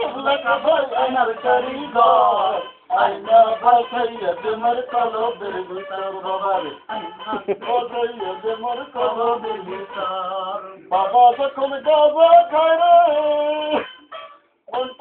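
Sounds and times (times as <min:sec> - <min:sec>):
man singing: 0:00.0 - 0:14.0, 0:14.7 - 0:15.0
music: 0:00.0 - 0:14.1, 0:14.7 - 0:15.0.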